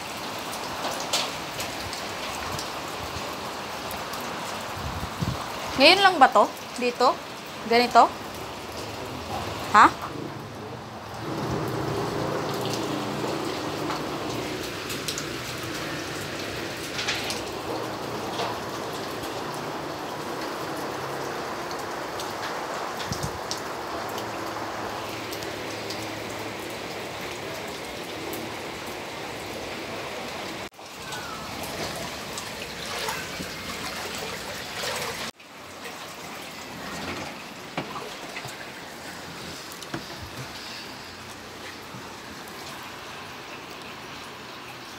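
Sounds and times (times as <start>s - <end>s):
heavy rain falling: 0.0s - 44.9s
water running and dripping: 0.0s - 44.9s.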